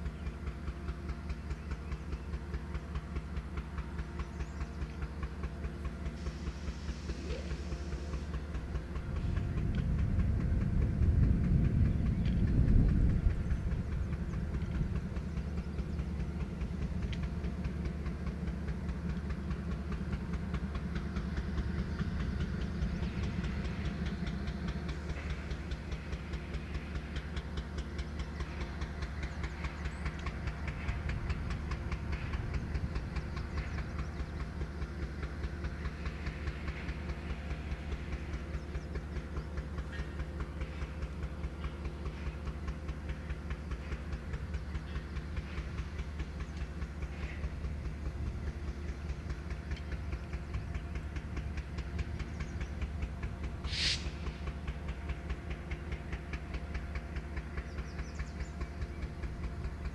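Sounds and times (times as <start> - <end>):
freight train rumbling: 0.0 - 59.9
wheels clattering on rails: 0.0 - 59.9.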